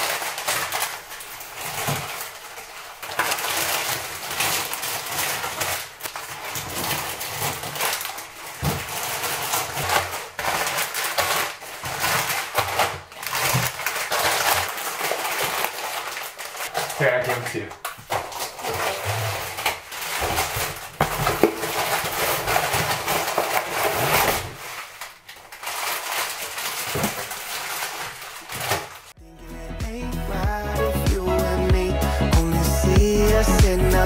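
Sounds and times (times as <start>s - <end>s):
plastic packets crinkling: 0.0s - 29.2s.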